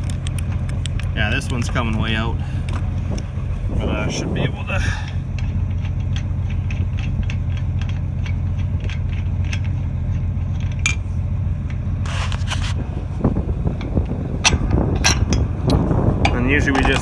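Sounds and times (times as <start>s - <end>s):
metal clatter: 0.0s - 17.0s
metal clicking and scraping: 0.0s - 17.0s
tractor engine idling: 0.0s - 17.0s.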